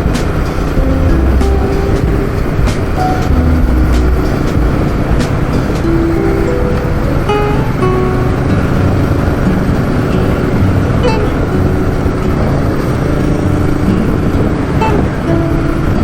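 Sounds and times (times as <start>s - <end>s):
faint held musical notes: 0.0s - 16.0s
vehicle road and engine noise: 0.0s - 16.0s.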